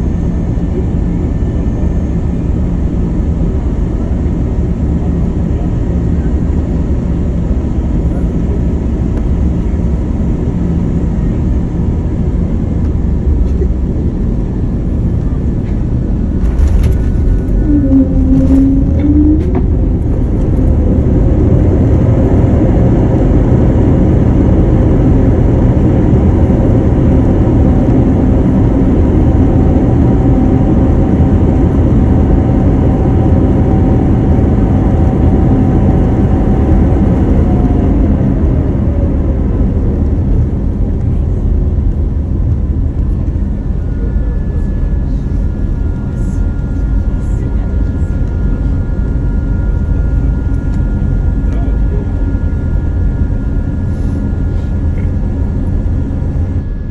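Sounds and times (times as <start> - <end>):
airliner engines and airflow rush: 0.0 - 56.9
held engine tone: 0.0 - 56.9.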